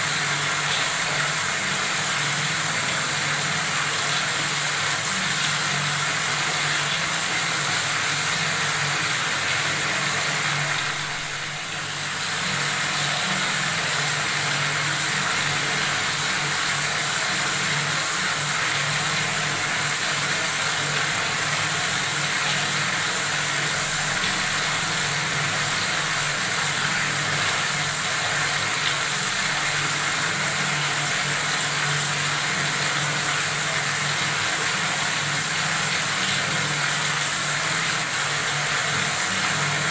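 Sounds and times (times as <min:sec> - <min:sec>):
water running from a faucet: 0:00.0 - 0:39.9.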